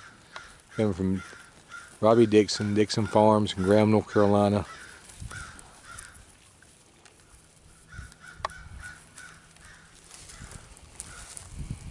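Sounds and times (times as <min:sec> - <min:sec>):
faint bird calls: 0:00.0 - 0:06.3, 0:07.2 - 0:11.5.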